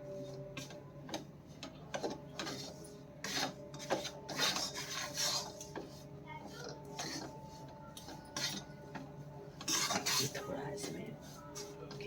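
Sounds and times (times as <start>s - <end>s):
flour stirred and scraped in pan: 0.0s - 12.0s.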